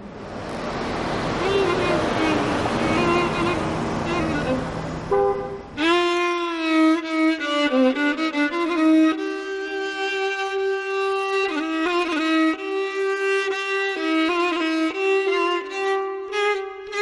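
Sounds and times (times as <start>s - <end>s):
solo violin melody: 0.9s - 17.0s.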